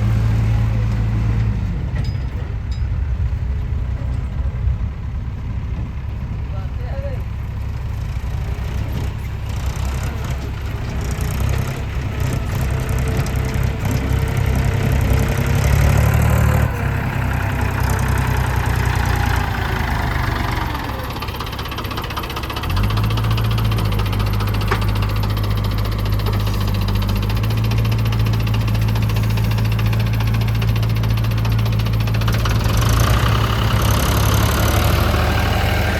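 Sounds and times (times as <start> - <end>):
heavy diesel engine running: 0.0 - 35.9.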